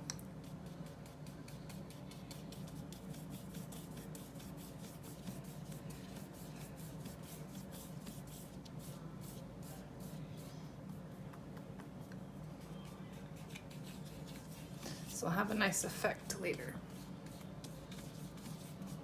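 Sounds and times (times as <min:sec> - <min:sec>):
steady low hum: 0:00.0 - 0:19.0
paintbrush scrubbing on paper: 0:00.4 - 0:11.3, 0:12.6 - 0:19.0.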